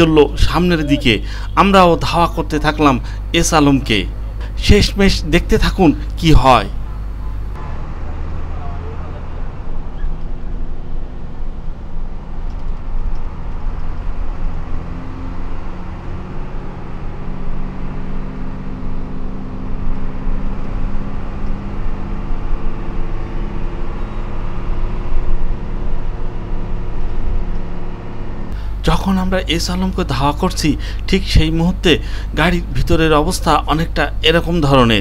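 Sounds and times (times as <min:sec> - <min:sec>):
bus engine drone: 0:00.0 - 0:35.0
road noise: 0:00.0 - 0:35.0.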